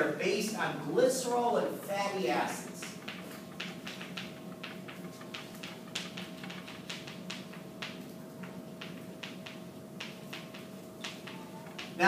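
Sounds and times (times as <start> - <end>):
chalk tapping and scraping on chalkboard: 1.7 - 12.0.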